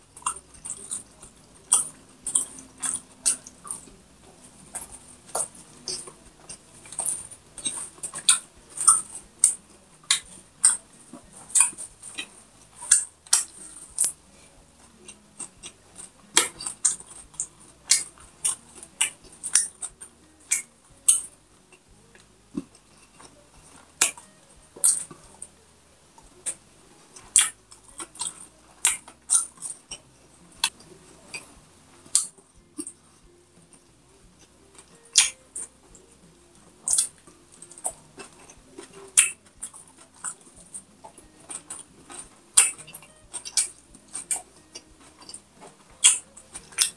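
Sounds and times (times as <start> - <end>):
person chewing crunchy food: 0.2 - 25.5, 26.4 - 33.9, 34.8 - 35.7, 36.8 - 46.9.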